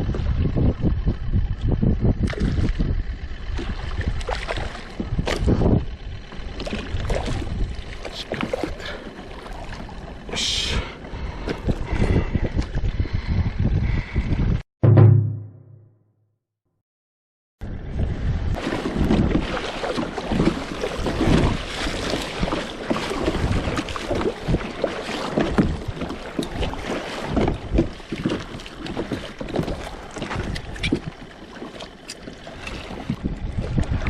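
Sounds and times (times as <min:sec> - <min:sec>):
wind buffeting microphone: 0:00.0 - 0:10.3, 0:11.0 - 0:14.6, 0:17.6 - 0:31.2, 0:31.9 - 0:34.0
water lapping against hull: 0:00.0 - 0:14.5, 0:17.9 - 0:34.0.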